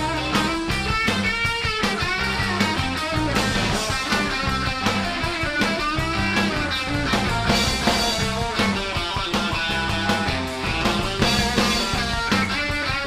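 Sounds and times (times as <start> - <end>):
drum kit beat: 0.0 - 13.0
electric guitar: 0.0 - 13.0.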